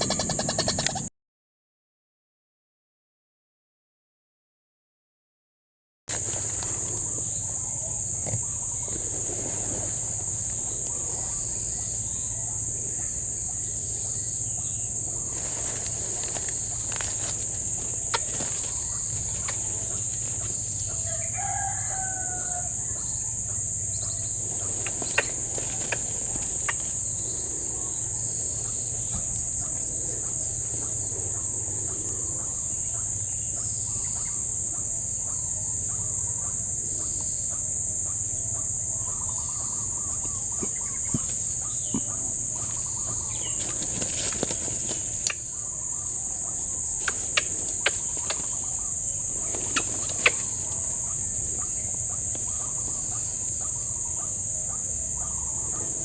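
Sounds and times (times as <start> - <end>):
bird call: 0.0 - 1.1, 6.1 - 34.4, 39.0 - 56.0
insects droning: 0.0 - 1.1, 6.1 - 56.0.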